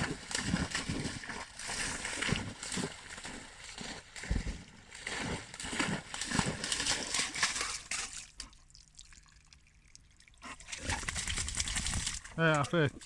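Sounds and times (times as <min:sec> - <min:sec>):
dog splashing through water: 0:00.0 - 0:13.0.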